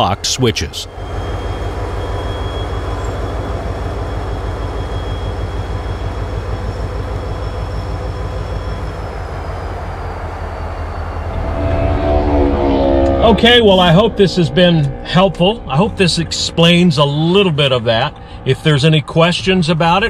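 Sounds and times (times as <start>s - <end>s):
diesel locomotive rumbling: 0.0s - 20.0s
faint high whine: 0.0s - 20.0s.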